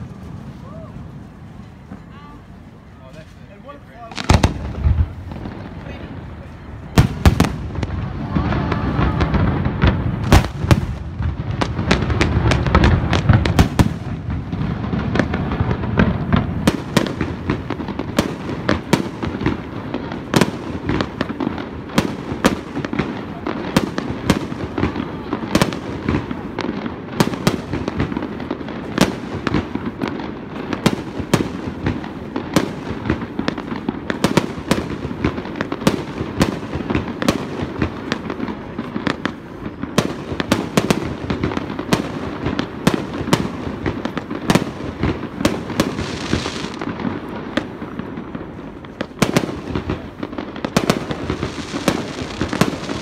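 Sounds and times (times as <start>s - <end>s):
steady low background noise: 0.0s - 53.0s
fireworks bangs and pops: 3.0s - 53.0s.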